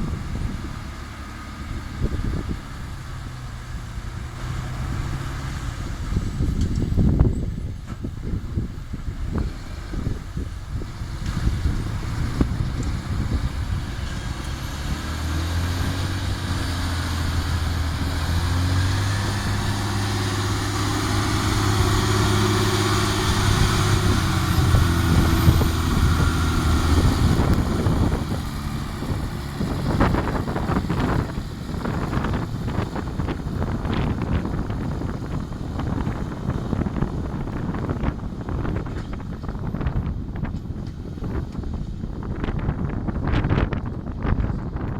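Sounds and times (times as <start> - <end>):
diesel engine running: 0.0 - 44.9
wind buffeting microphone: 0.0 - 44.9.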